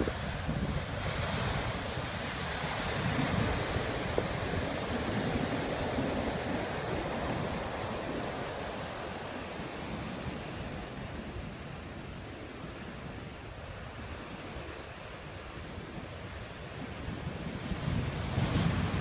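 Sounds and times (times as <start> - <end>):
ocean waves breaking: 0.0 - 19.0
surf washing up beach: 0.0 - 19.0.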